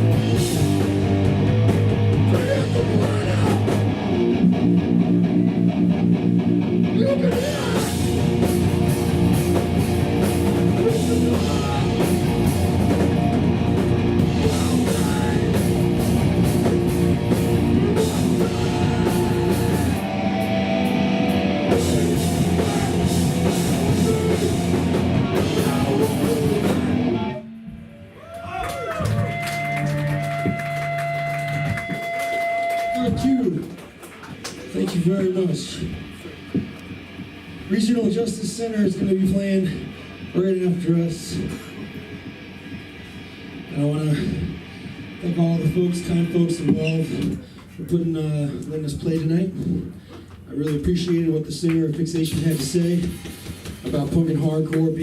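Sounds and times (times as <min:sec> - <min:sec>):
distorted electric guitars: 0:00.0 - 0:28.0, 0:29.0 - 0:55.0
pounding drum kit: 0:00.0 - 0:47.6, 0:48.2 - 0:55.0.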